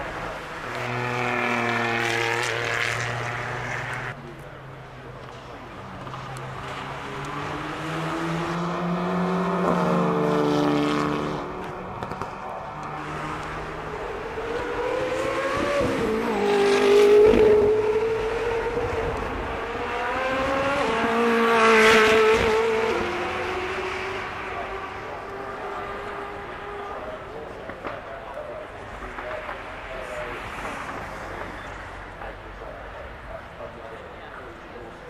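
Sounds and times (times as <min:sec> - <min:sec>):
fast cars passing: 0:00.0 - 0:35.0.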